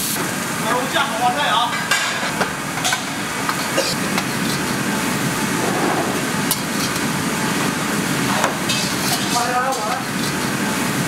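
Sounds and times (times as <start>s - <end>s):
kitchen background rushing noise: 0.0s - 11.0s.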